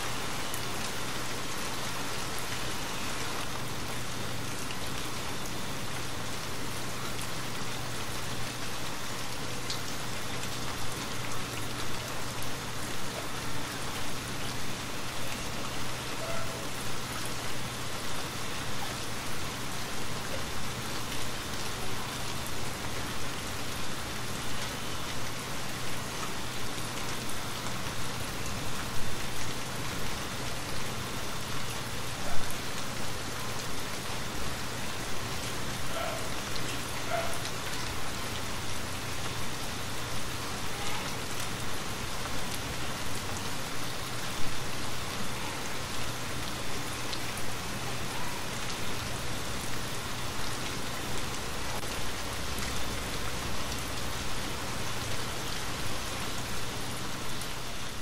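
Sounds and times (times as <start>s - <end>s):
rain on a wooden cabin: 0.0s - 58.0s.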